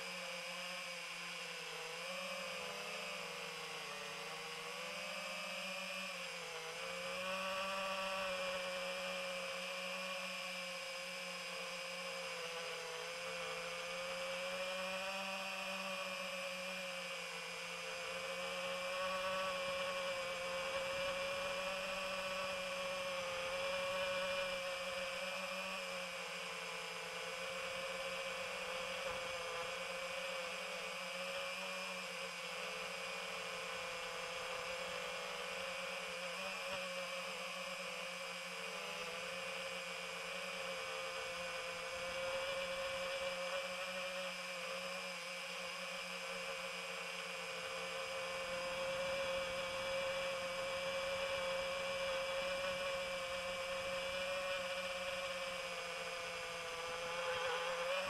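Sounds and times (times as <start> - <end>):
drone propellers whirring: 0.0 - 58.0.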